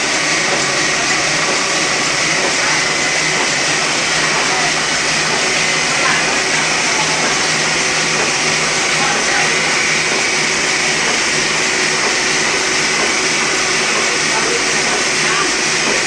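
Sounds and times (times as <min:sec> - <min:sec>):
printing press running: 0:00.0 - 0:16.0.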